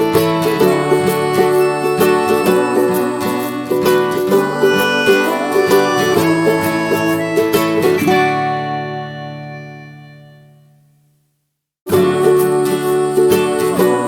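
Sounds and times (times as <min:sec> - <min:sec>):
plucked string instrument music: 0:00.0 - 0:11.0, 0:11.9 - 0:14.0.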